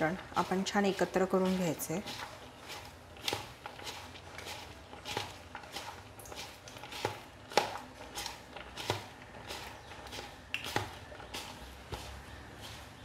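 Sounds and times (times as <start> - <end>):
onions rustling in a bowl: 0.0 - 13.0.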